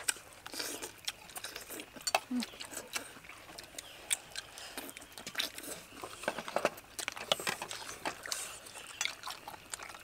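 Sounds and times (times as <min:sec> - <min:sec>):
wet chewing and lip-smacking: 0:00.0 - 0:10.0.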